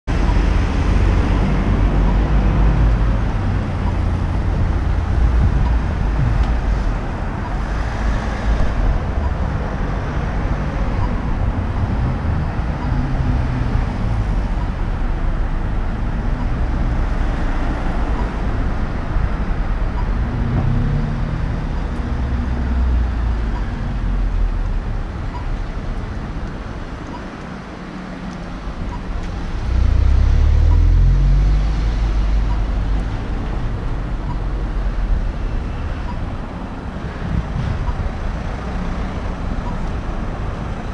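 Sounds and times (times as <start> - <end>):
cars passing close by: 0.1 - 40.9.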